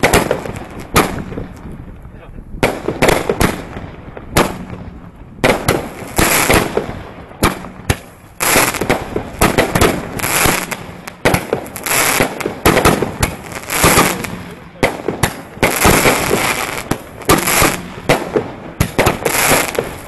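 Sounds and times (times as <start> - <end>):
firework bangs: 0.0 - 20.0
firework crackling: 0.0 - 20.0.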